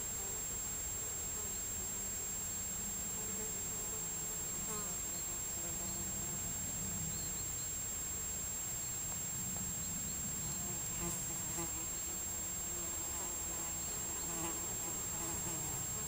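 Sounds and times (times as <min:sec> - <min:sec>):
flying insects buzzing: 0:00.0 - 0:16.0.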